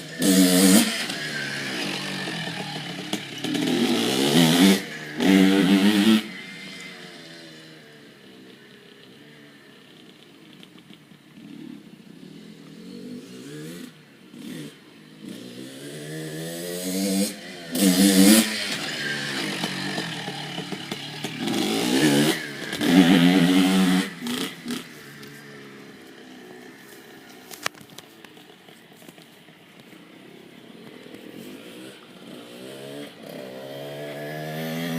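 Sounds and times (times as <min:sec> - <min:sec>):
dirt bike engine revving: 0:00.0 - 0:08.4, 0:11.4 - 0:27.9, 0:28.6 - 0:34.9.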